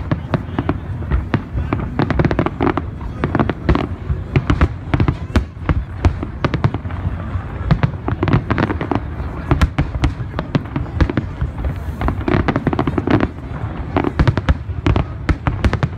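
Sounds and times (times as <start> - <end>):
fireworks bursting and crackling: 0.0 - 15.9.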